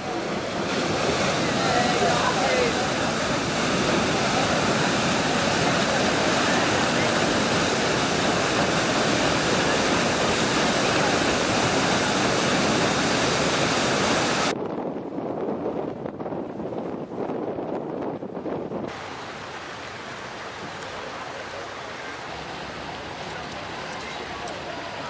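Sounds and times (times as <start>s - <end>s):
paddle wheel churning water: 0.0s - 14.6s, 15.3s - 25.0s.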